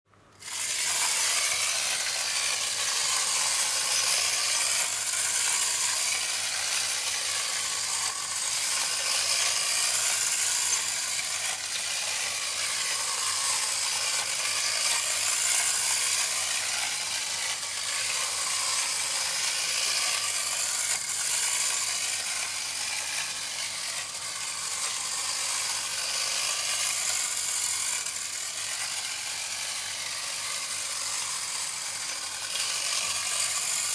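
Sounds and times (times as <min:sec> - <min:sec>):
wind-up toy gears whirring: 0:00.3 - 0:33.9.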